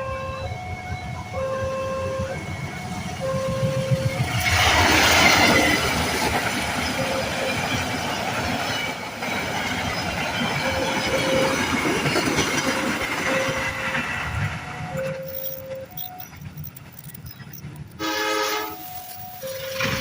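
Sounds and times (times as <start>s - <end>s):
train wheels rolling by: 2.3s - 20.0s.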